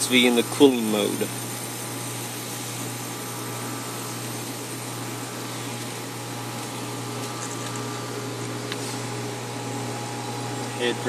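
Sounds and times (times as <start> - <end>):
heat pump unit humming: 0.0 - 11.0.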